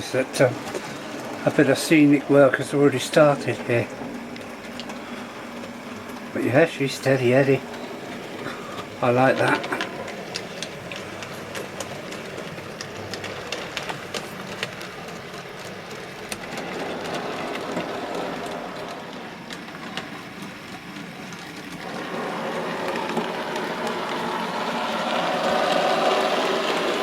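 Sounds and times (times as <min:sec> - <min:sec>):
model locomotive motor running: 0:00.0 - 0:27.0
wheels clicking on track: 0:00.0 - 0:27.0.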